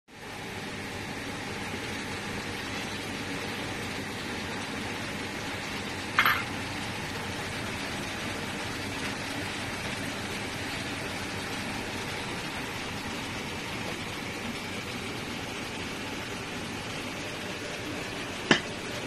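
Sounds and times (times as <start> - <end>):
gas stove rushing: 1.9 - 19.0.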